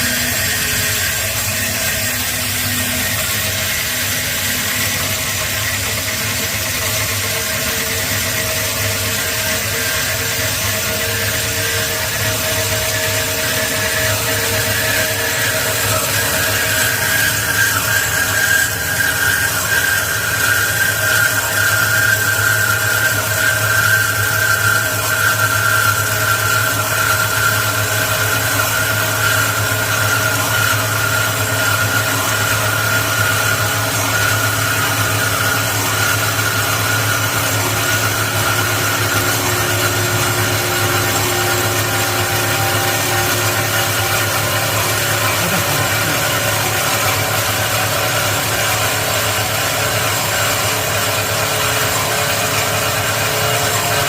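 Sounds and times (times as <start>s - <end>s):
band saw running: 0.0s - 54.0s.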